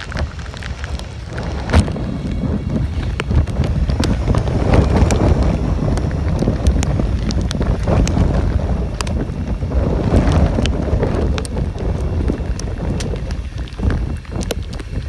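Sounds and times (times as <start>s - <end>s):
drops ticking: 0.0s - 15.0s
rain: 0.0s - 15.0s
wind buffeting microphone: 0.0s - 15.0s.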